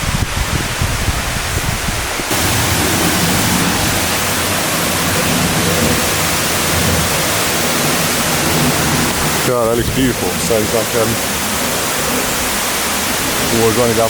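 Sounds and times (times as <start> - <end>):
water pouring down cascades: 0.0 - 14.0.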